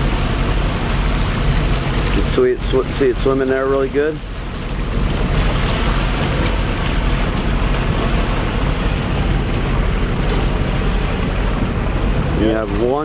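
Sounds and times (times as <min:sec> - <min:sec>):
churning water in boat wake: 0:00.0 - 0:13.0
low steady rumble: 0:00.0 - 0:13.0.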